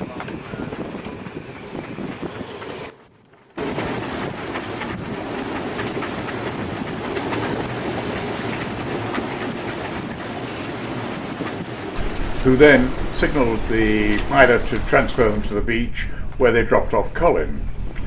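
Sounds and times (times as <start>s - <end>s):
rough sea: 0.0s - 18.0s
strong wind on microphone: 0.0s - 18.0s.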